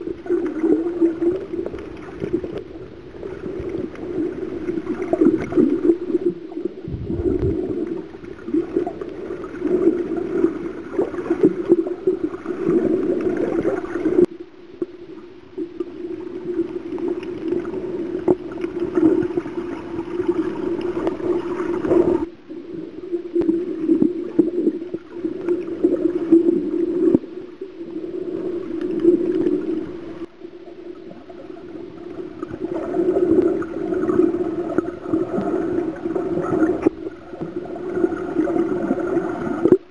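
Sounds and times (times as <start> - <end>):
underwater water gurgle: 0.0 - 39.9.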